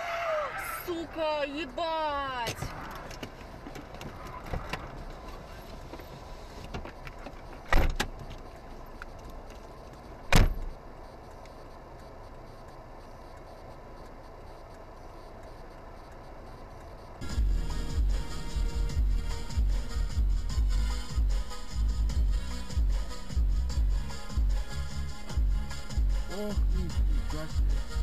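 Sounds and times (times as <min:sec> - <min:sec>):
car running noise: 0:00.0 - 0:28.0.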